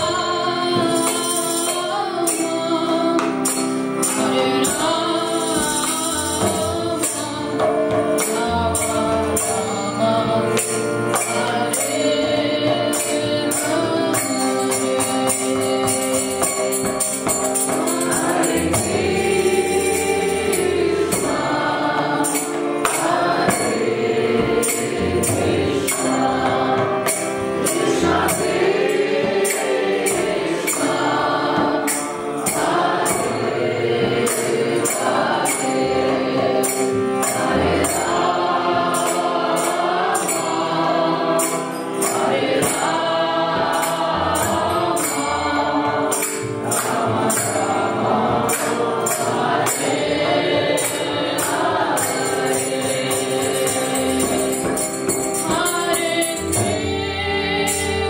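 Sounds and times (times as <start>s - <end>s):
group singing a chant: 0.0s - 58.0s
hand cymbals beating: 0.0s - 58.0s
harmonium: 0.0s - 58.0s.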